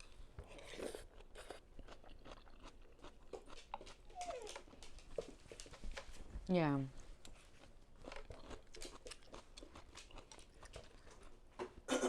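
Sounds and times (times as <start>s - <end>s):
chewing and crunching vegetables: 0.0s - 6.2s, 7.0s - 12.0s.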